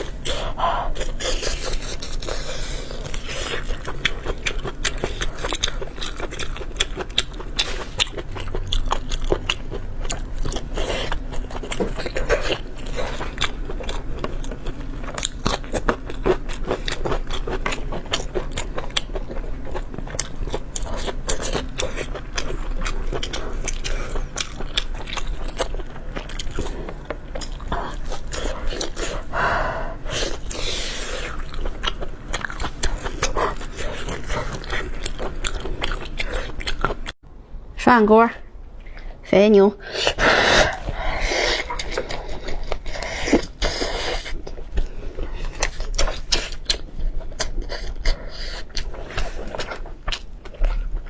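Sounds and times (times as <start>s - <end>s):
person chewing and crunching: 0.0s - 37.2s, 40.0s - 51.0s.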